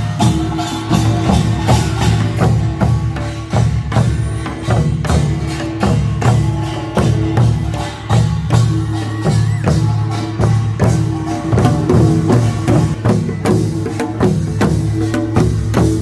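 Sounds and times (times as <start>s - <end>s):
drums struck: 0.0s - 16.0s
percussion band playing a brisk beat: 0.0s - 16.0s.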